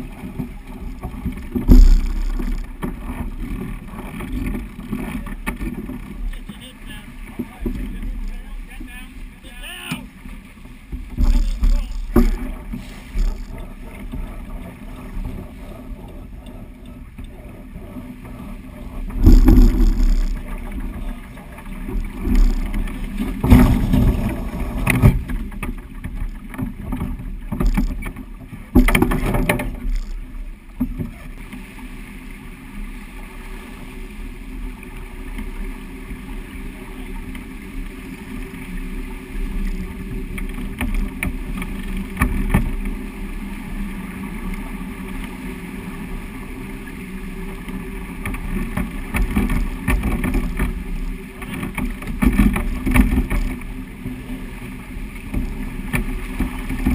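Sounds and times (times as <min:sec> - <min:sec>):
water rushing past hull: 0:00.0 - 0:56.9.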